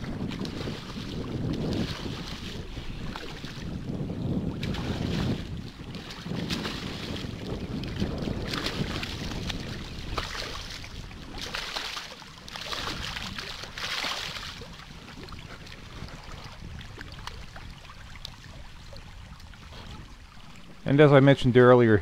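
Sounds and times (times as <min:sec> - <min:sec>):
fish splashing and thrashing: 0:00.0 - 0:20.9
water sloshing and lapping: 0:00.0 - 0:21.6.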